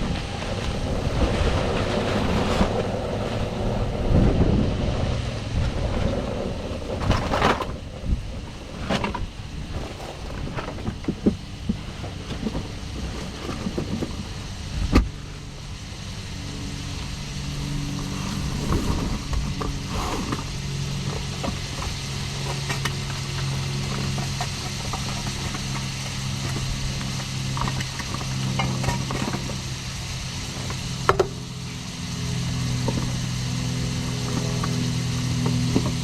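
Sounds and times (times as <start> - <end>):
engine running with low hum: 0.0 - 36.0.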